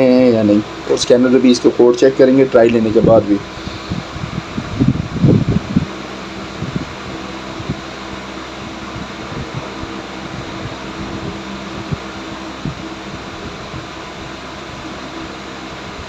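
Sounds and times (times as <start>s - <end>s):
mechanical fan hum: 0.0s - 16.0s.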